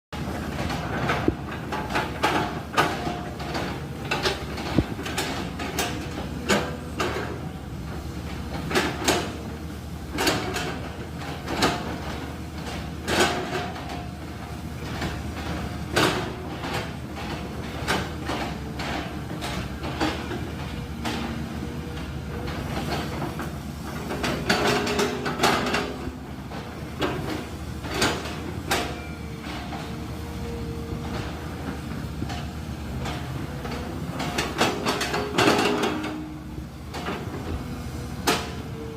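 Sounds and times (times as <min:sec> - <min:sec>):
excavator diesel engine running: 0:00.2 - 0:38.9
metal clanks and knocks: 0:00.2 - 0:38.9.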